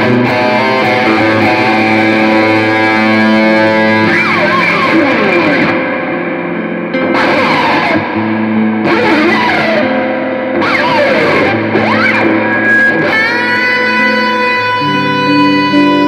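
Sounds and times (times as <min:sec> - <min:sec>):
electric guitar with pitch glides: 0:00.0 - 0:16.0.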